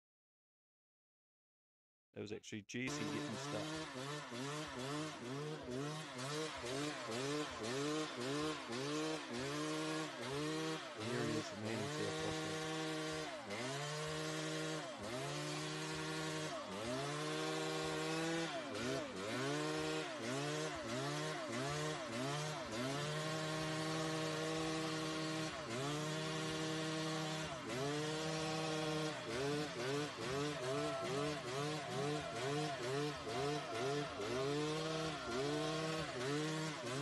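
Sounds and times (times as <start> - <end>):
dirt bike engine revving: 2.8 - 37.0.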